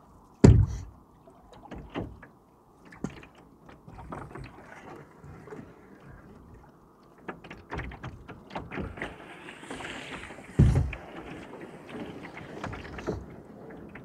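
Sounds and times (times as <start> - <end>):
canoe paddle splashing in water: 0.4 - 14.0.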